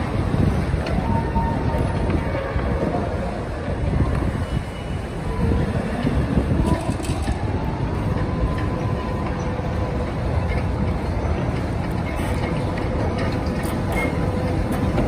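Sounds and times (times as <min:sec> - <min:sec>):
heavy crane machinery rumble: 0:00.0 - 0:15.0.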